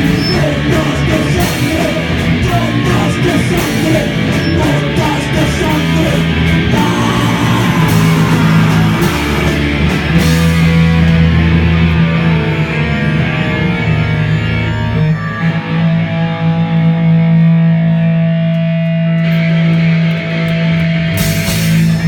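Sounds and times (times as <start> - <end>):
bass guitar: 0.0 - 22.0
distorted electric guitar: 0.0 - 22.0
drums: 0.0 - 22.0.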